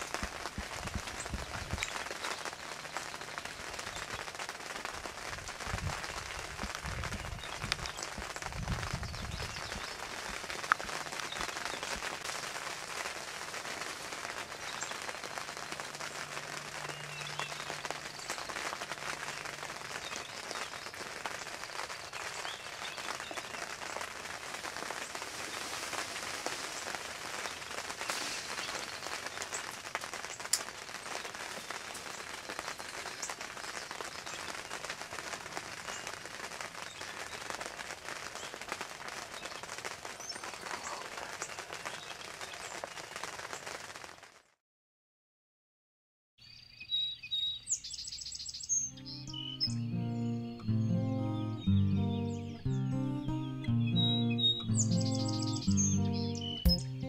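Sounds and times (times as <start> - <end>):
steady rain falling: 0.0 - 44.6, 48.7 - 57.0.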